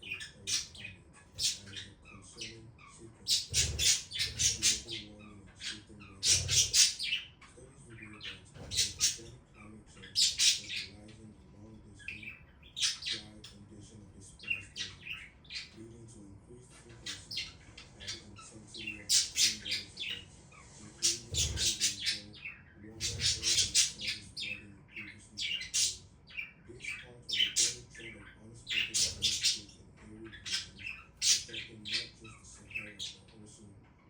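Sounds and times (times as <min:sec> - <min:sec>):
budgies chirping and squawking: 0:00.0 - 0:33.9.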